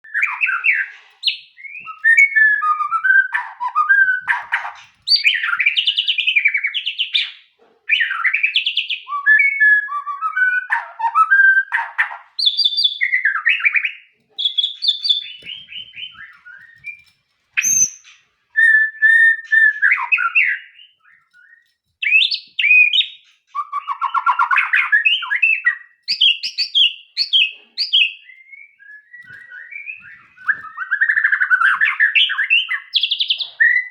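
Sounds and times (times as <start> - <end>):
bird singing whistled phrases: 0.0 - 11.8, 12.4 - 33.9.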